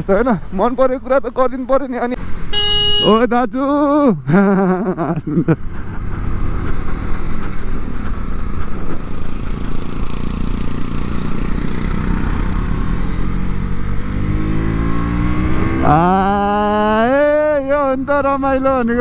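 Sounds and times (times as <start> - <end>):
motorcycle engine rumbling: 0.0 - 18.9.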